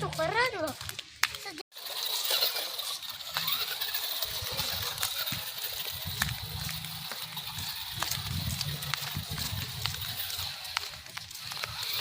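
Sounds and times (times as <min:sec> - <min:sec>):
wheels rattling on stones: 0:00.0 - 0:12.0
small electric motor whine: 0:01.8 - 0:12.0.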